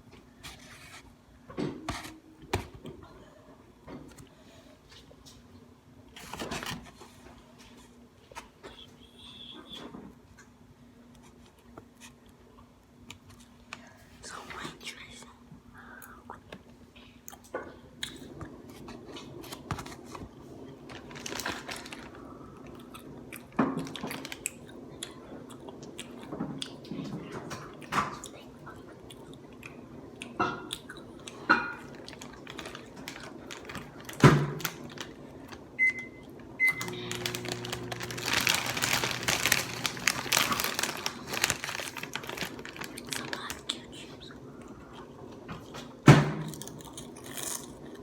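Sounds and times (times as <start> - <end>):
rustling hiss with low hum: 0.0 - 48.0.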